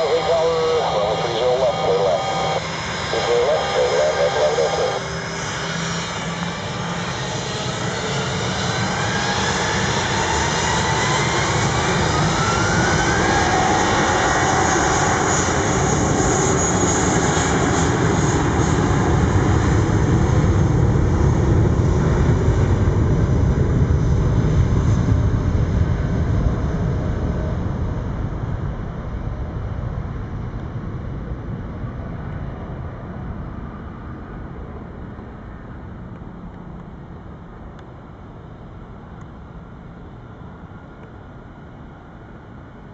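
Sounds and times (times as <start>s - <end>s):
jet engines at takeoff thrust: 0.0s - 42.9s.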